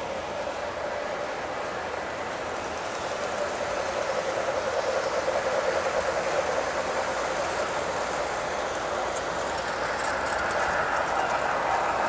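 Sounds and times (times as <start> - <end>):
model locomotive whine: 0.0 - 12.0
rumble of wheels on rails: 0.0 - 12.0.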